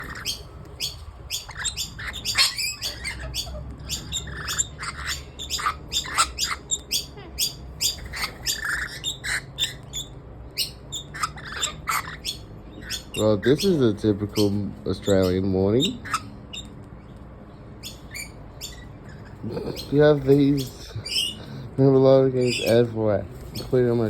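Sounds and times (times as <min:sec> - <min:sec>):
parrots chirping and squawking: 0:00.0 - 0:24.0.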